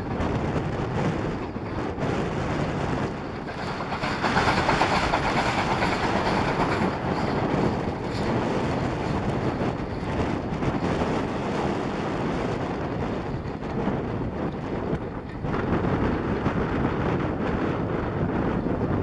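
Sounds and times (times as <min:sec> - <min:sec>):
steam train passing: 0:00.0 - 0:18.9.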